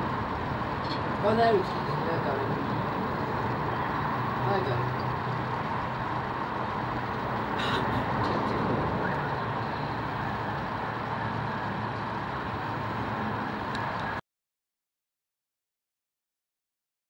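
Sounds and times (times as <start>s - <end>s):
jet engines passing overhead: 0.0s - 14.2s.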